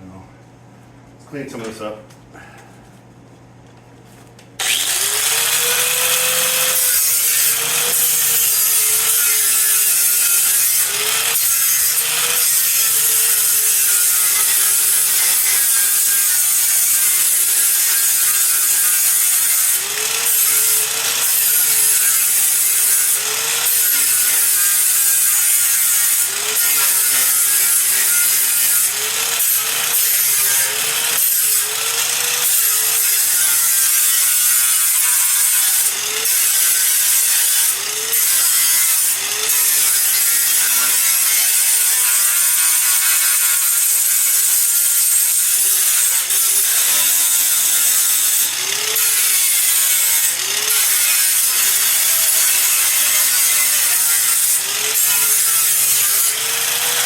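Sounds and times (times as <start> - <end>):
power grinder on metal: 4.6 - 57.0.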